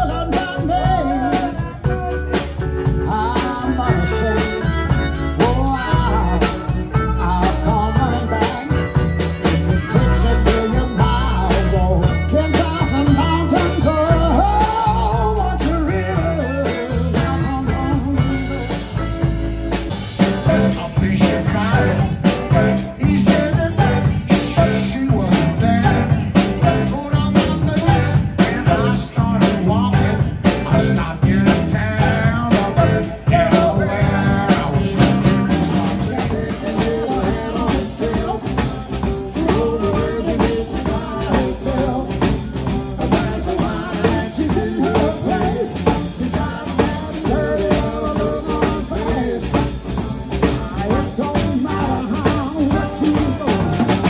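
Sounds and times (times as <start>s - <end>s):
live blues band: 0.0s - 54.0s.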